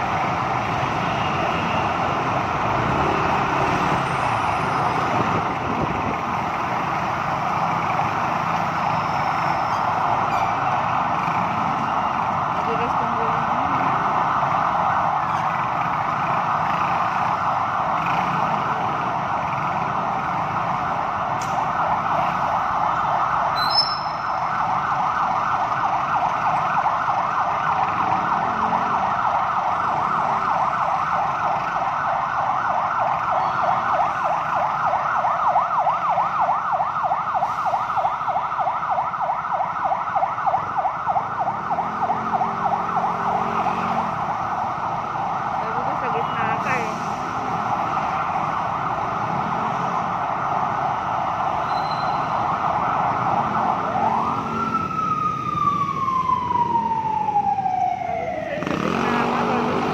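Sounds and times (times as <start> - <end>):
ambulance siren warbling: 0.0 - 59.9.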